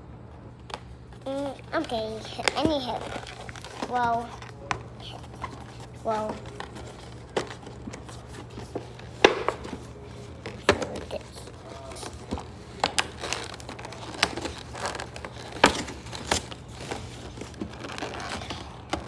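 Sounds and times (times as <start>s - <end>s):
faint steady hum: 0.0s - 19.0s
toy and packaging clicks and knocks: 0.7s - 19.0s.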